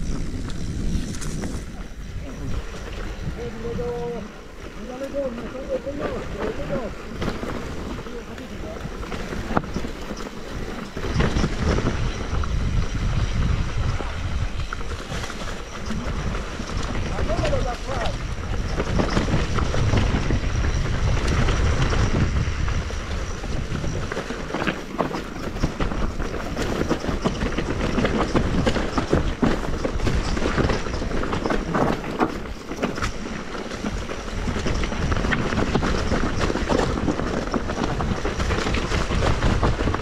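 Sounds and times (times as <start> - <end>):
bike tyres rolling over dirt: 0.0 - 40.0
chain and frame rattling: 0.1 - 40.0.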